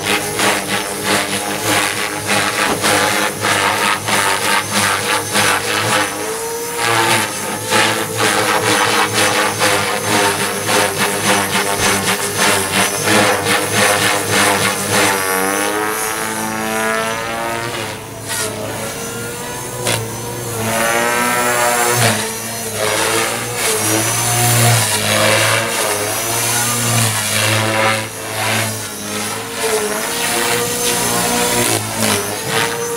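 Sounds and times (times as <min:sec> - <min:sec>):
electric motor whine: 0:00.0 - 0:32.9
rc helicopter rotor hum: 0:00.0 - 0:32.9.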